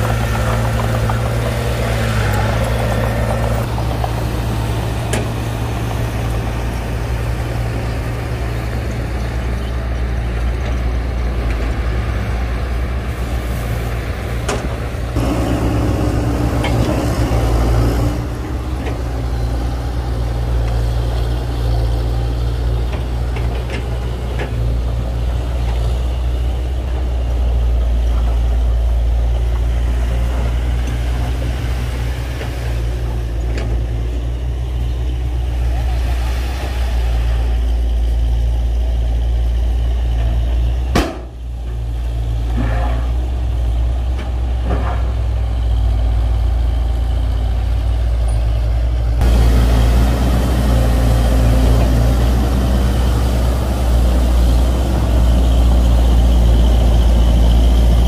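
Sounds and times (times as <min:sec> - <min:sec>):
heavy diesel engines running: 0:00.0 - 0:58.0.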